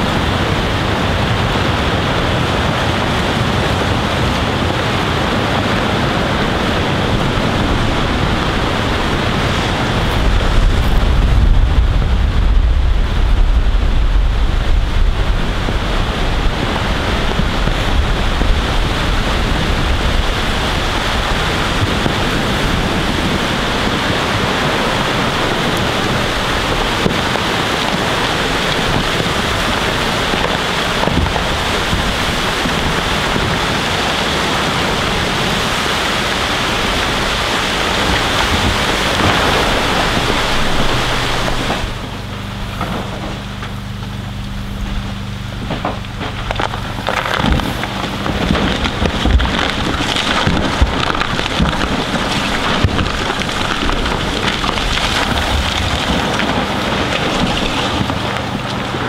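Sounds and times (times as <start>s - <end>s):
iceberg breaking rumble: 0.0s - 59.0s
moving water: 0.0s - 59.0s
wind on microphone: 0.0s - 59.0s.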